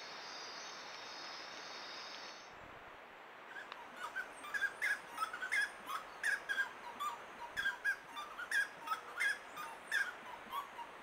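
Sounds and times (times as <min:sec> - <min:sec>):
faint forest hiss: 0:00.0 - 0:11.0.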